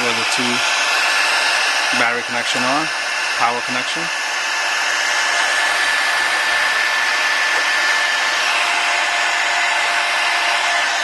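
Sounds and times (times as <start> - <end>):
hot-air blower hissing with whine: 0.0 - 11.0.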